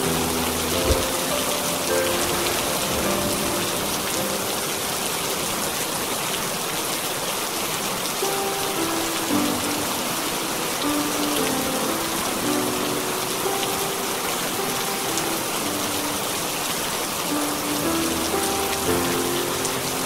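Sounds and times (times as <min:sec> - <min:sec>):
soft slow melody: 0:00.0 - 0:05.6, 0:08.1 - 0:20.0
steady rainfall: 0:00.0 - 0:20.0.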